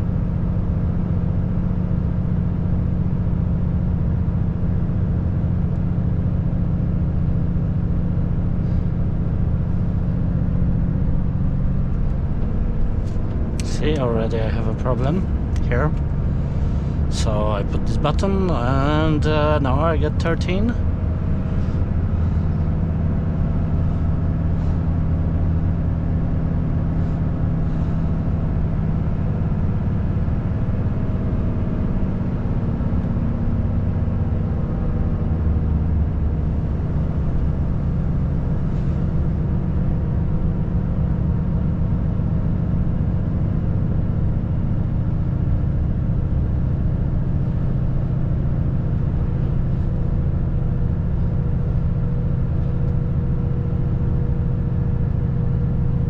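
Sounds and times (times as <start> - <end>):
truck diesel engine driving: 0.0 - 56.0.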